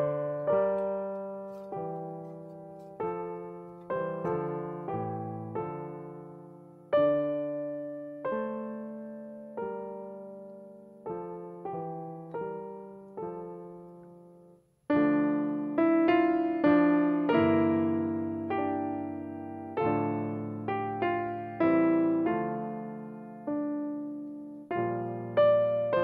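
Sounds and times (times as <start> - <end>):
gentle piano chords: 0.0 - 26.0.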